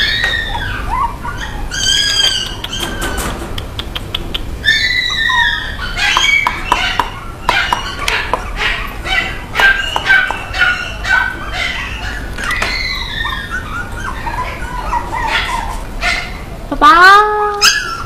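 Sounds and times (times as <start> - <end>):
dog whining: 0.0 - 3.4, 4.5 - 18.0.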